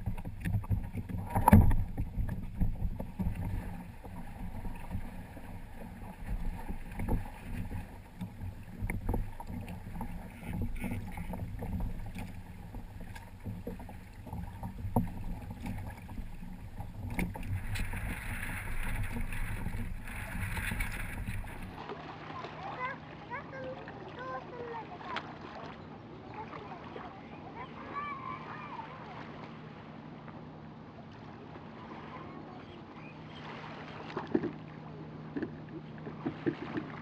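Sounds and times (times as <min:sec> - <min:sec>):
water rushing along a hull: 0:00.0 - 0:37.0
waves slapping: 0:00.0 - 0:37.0.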